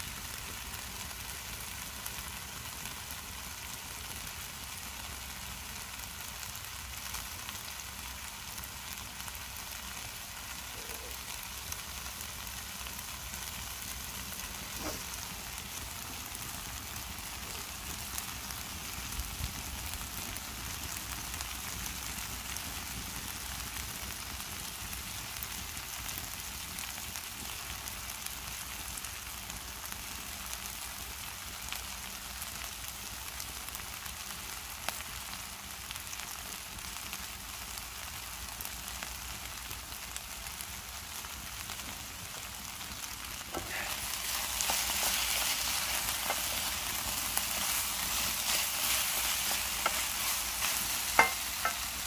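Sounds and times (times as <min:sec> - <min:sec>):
fire crackling: 0:00.0 - 0:52.0
food sizzling in a frying pan: 0:00.0 - 0:52.0.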